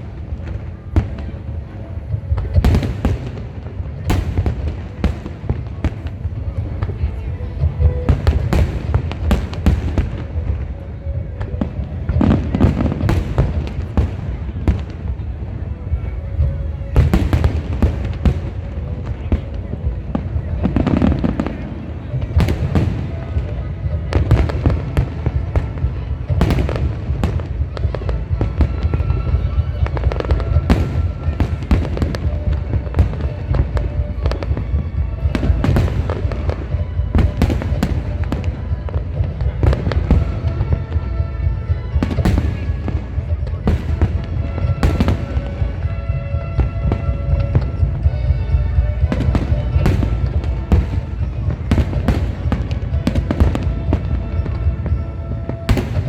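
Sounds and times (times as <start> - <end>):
firework bangs and crackles: 0.0 - 56.0.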